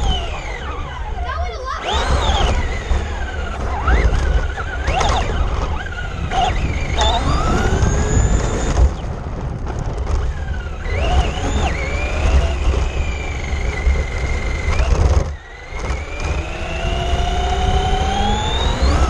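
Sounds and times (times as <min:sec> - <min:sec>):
rc car motor whining: 0:00.0 - 0:19.0
wheels rumbling on rough pavement: 0:00.0 - 0:19.0.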